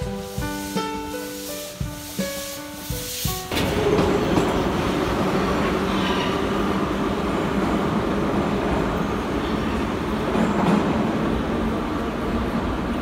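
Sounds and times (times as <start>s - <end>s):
metro train running on rails: 0.0s - 13.0s.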